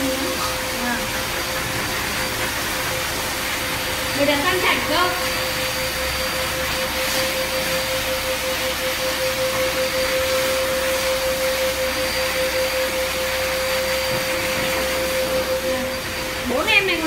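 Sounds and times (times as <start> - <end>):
blower dryer whining: 0.0 - 17.0.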